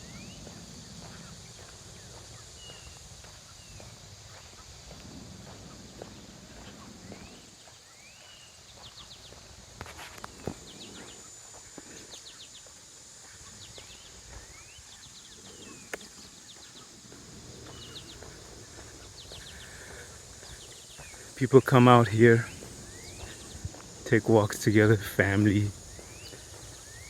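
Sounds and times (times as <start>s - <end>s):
birds chirping: 0.0s - 27.0s
faint high hiss: 0.0s - 27.0s
footsteps clicking on path: 0.0s - 27.0s.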